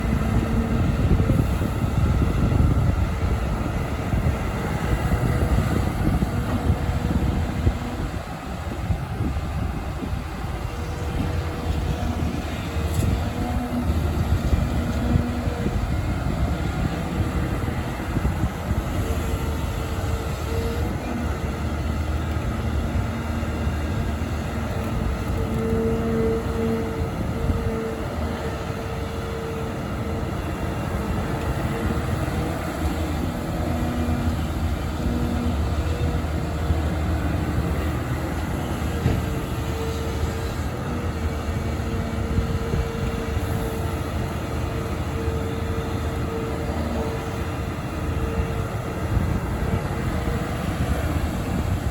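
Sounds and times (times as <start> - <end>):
excavator engine and hydraulics: 0.0 - 51.9
mid-pitched hydraulic whine: 0.0 - 51.9.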